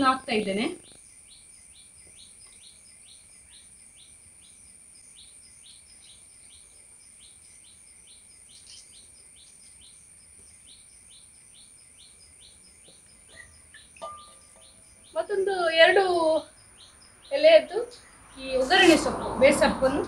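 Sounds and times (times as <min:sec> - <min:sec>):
small bird chirping: 0:00.0 - 0:19.2.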